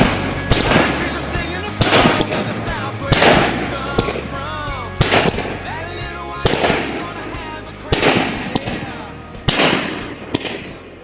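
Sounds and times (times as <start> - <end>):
background music: 0.0 - 11.0
fireworks bursts crackling: 0.0 - 11.0.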